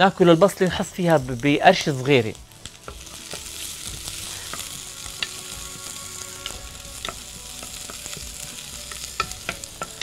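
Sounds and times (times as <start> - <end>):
onions sizzling in pot: 0.0 - 10.0.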